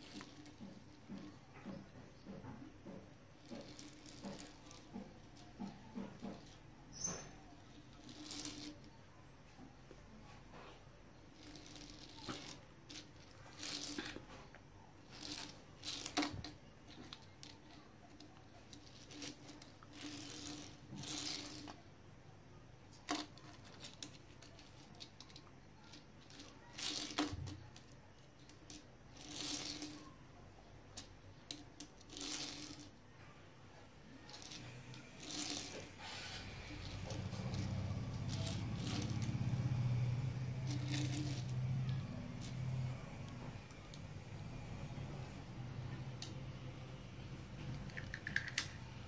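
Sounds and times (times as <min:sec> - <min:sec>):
plastic toys clicking: 0:00.0 - 0:08.9, 0:11.3 - 0:21.8, 0:22.9 - 0:33.0, 0:34.2 - 0:49.0
plastic wheels rolling on tiles: 0:00.0 - 0:22.1, 0:22.8 - 0:49.0.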